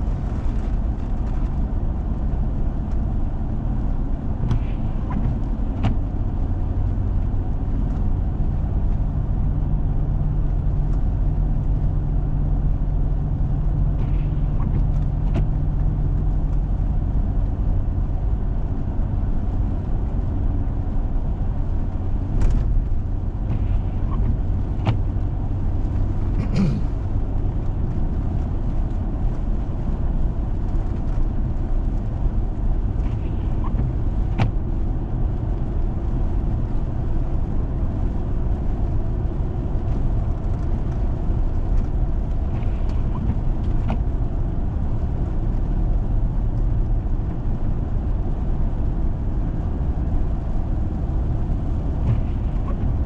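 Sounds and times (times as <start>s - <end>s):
vehicle road and engine drone: 0.0s - 53.0s.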